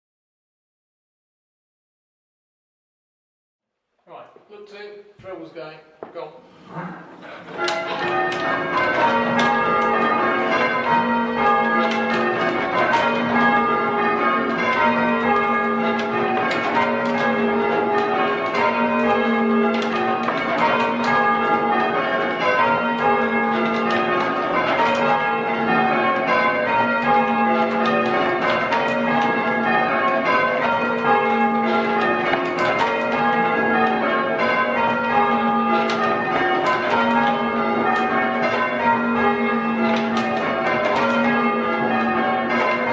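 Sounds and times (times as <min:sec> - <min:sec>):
church bells ringing: 0:07.3 - 0:42.9.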